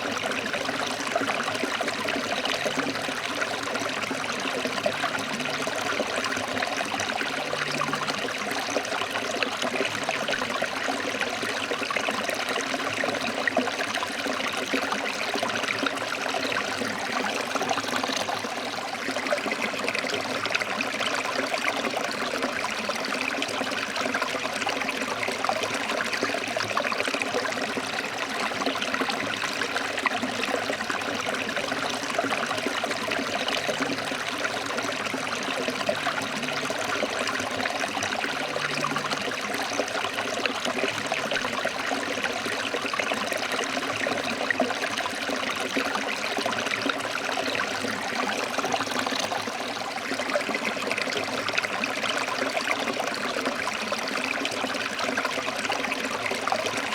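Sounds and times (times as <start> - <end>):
stream splashing over rocks: 0.0 - 56.9.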